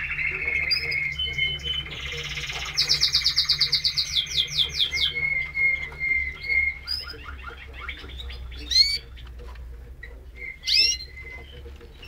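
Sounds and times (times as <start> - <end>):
canaries singing trills: 0.0 - 12.0.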